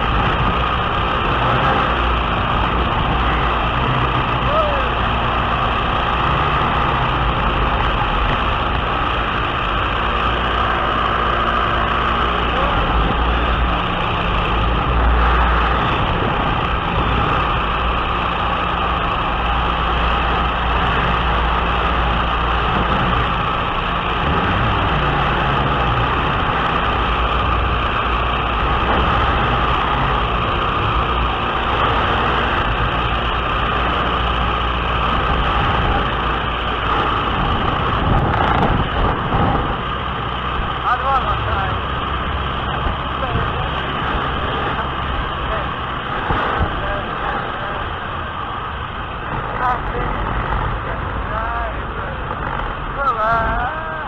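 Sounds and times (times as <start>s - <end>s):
plane engine drone: 0.0s - 54.0s
wind rushing over microphone: 0.0s - 54.0s.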